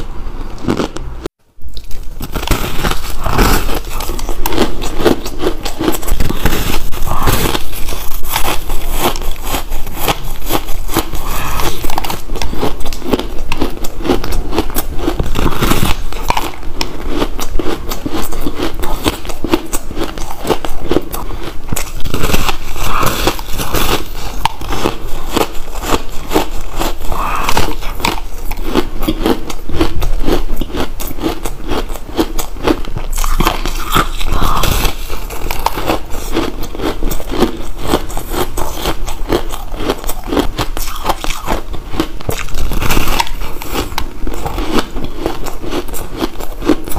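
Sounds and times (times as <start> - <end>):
ice crunching between teeth: 1.7 - 46.9.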